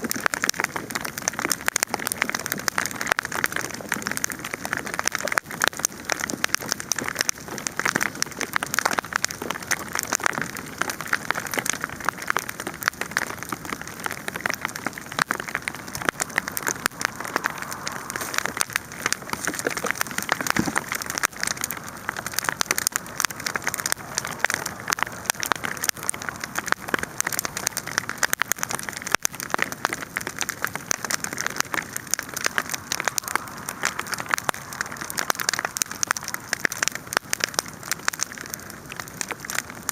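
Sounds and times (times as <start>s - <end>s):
pops and snaps: 0.0s - 39.9s
wood fire crackling: 0.0s - 39.9s.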